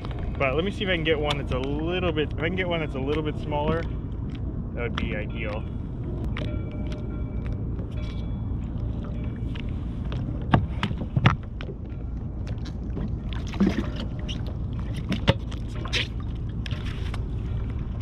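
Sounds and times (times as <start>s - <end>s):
water lapping against hull: 0.0s - 18.0s
wind rumble on microphone: 0.0s - 18.0s.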